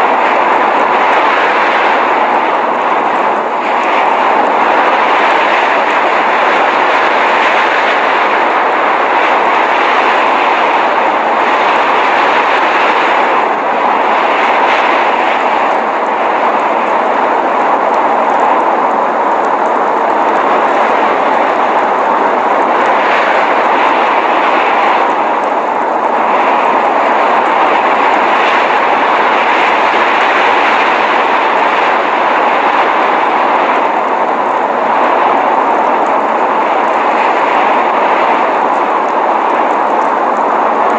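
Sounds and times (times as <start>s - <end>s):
snowstorm rushing noise: 0.0s - 40.9s.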